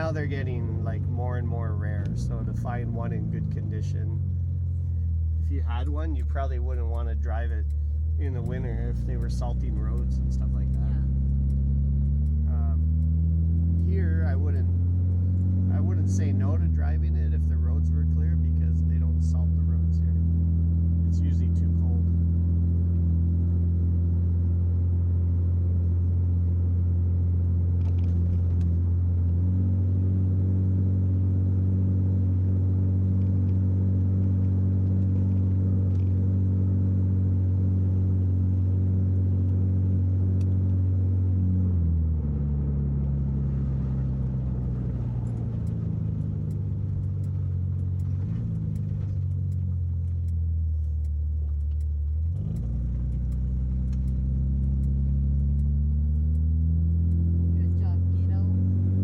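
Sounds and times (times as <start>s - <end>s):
car engine drone from inside cabin: 0.0s - 59.0s.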